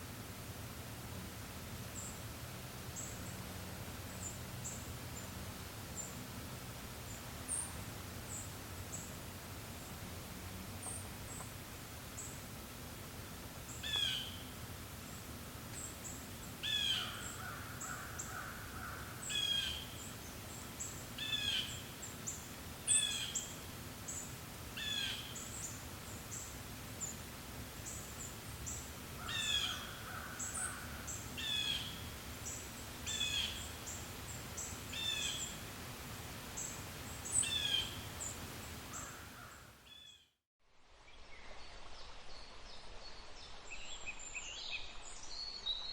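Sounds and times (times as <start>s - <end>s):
soft hiss of breeze: 0.0s - 45.9s.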